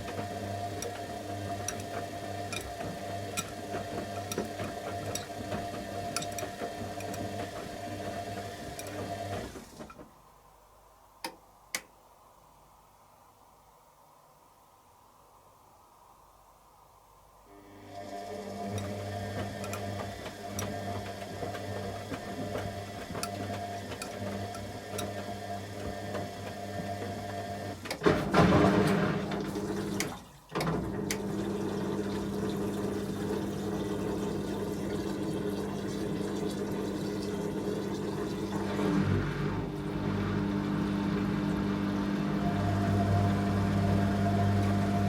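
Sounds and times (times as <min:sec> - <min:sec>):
washing machine spinning: 0:00.0 - 0:10.0, 0:17.6 - 0:45.0
washing machine drain pump humming: 0:00.0 - 0:10.5, 0:17.5 - 0:45.0.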